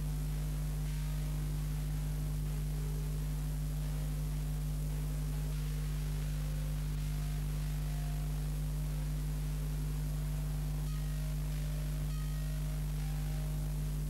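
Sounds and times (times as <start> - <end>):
constant hiss: 0.0 - 14.0
electrical mains hum: 0.0 - 14.0.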